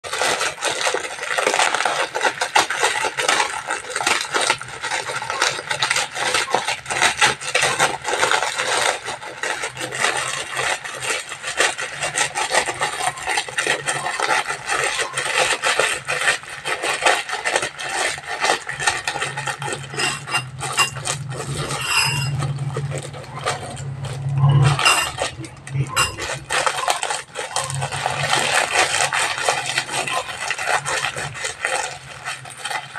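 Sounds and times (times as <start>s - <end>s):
plastic food packet crinkling: 0.0s - 32.9s.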